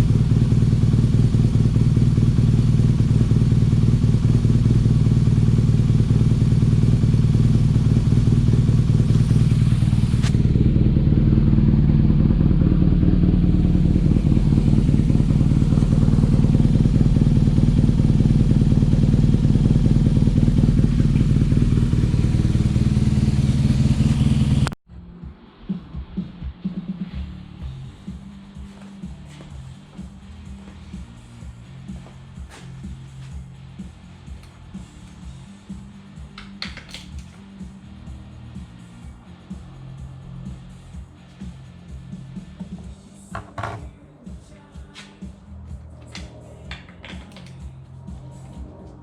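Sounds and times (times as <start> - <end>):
motorcycle engine idling: 0.0 - 24.8, 27.6 - 44.0.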